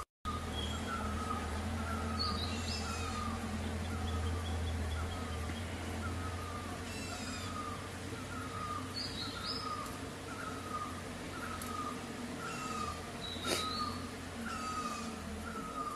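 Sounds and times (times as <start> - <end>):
low steady hum: 0.0 - 15.9
high bird chirps: 0.3 - 15.9.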